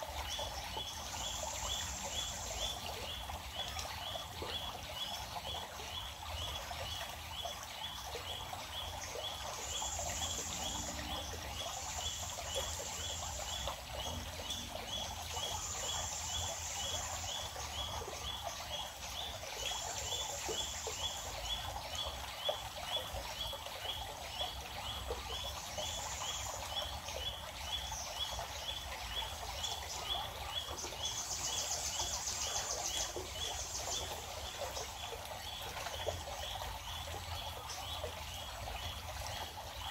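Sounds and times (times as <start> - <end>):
flowing water hiss: 0.0 - 39.9.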